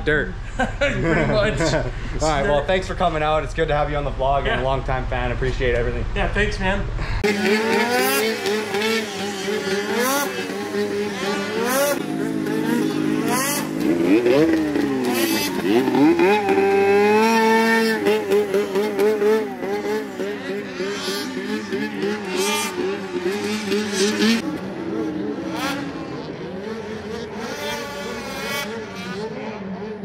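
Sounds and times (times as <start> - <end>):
snowmobile engines revving: 0.0 - 30.0.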